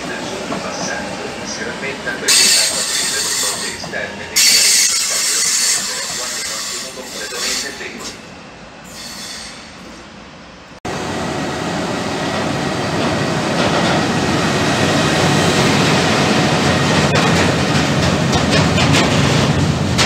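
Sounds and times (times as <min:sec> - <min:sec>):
faint train in station: 0:00.0 - 0:20.0
freight train passing: 0:00.0 - 0:20.0.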